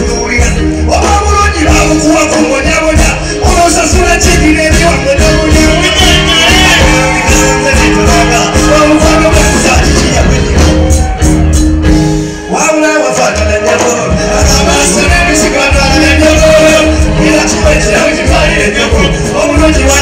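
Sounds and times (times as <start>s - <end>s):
person singing into microphones: 0.0s - 11.3s, 12.1s - 20.0s
loud music with a beat: 0.0s - 20.0s.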